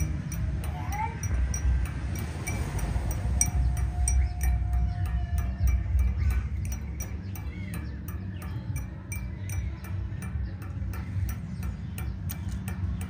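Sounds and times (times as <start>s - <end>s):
low steady rumble: 0.0s - 13.0s
steady ticking: 0.0s - 13.0s.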